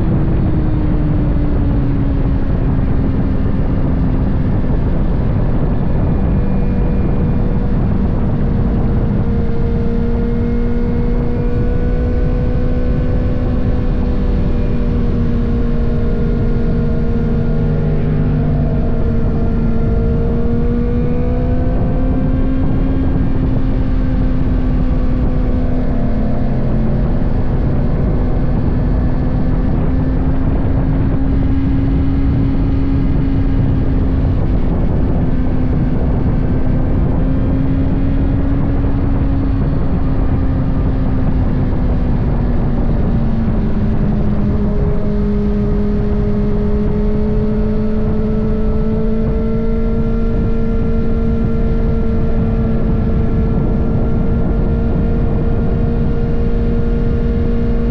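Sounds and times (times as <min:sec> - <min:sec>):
motorcycle engine cruising: 0:00.0 - 0:57.9
wind rushing over microphone: 0:00.0 - 0:57.9.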